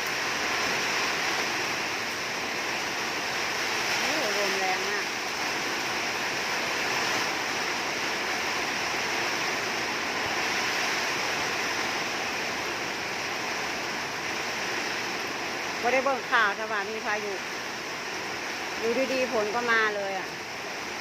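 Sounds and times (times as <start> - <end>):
rain in strong wind: 0.0 - 21.0.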